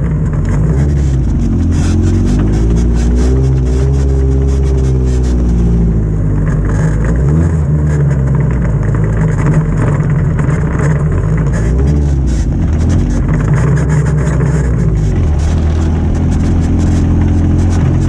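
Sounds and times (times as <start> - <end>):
buggy engine running: 0.0 - 18.0.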